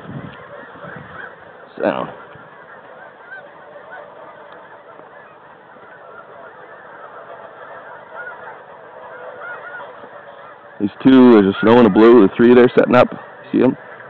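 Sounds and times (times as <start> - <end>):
geese honking chorus: 0.0 - 14.0.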